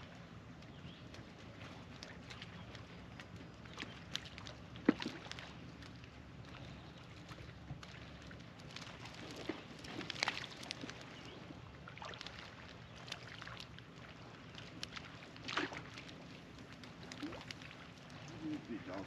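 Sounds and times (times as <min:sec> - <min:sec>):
fish splashing on water: 0:00.0 - 0:19.0
low steady hum: 0:00.0 - 0:19.0.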